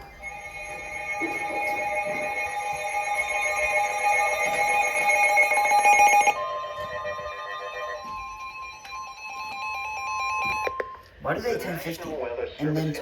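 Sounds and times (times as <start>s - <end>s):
steady electronic alarm tone: 0.0s - 11.1s
music-like electronic tones: 0.0s - 11.2s.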